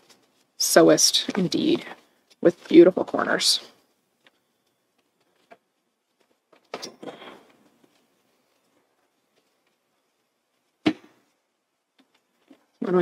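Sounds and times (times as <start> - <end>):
fabric handling: 0.0 - 12.8
fabric rustle: 0.0 - 13.0.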